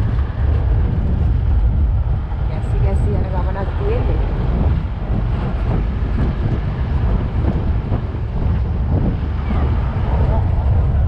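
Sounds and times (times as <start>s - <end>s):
vehicle engine and road rumble: 0.0s - 11.0s
wind buffeting microphone: 0.0s - 11.0s.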